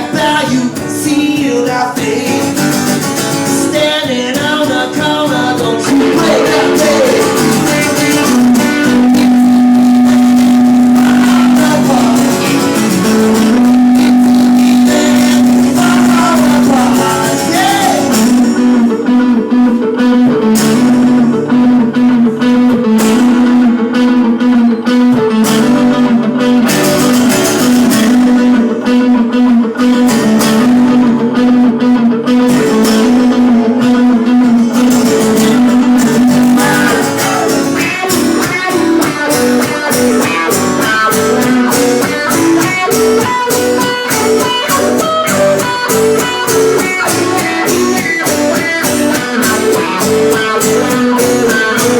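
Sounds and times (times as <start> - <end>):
electric guitar lines: 0.0 - 51.9
live band playing: 0.0 - 51.9.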